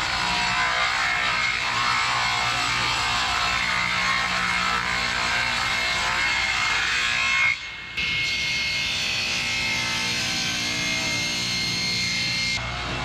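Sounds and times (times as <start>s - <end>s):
saw blade whine: 0.0s - 13.0s
table saw cutting wood: 0.0s - 13.0s.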